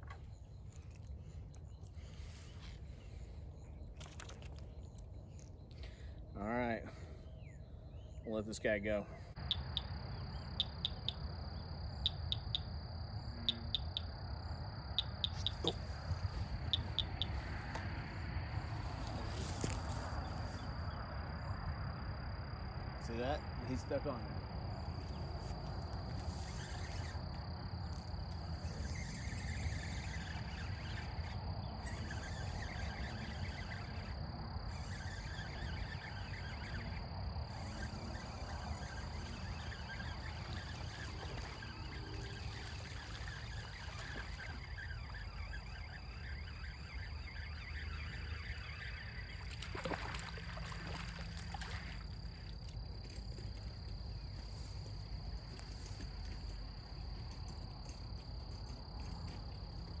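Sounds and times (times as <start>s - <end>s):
crickets droning: 0.0s - 60.0s.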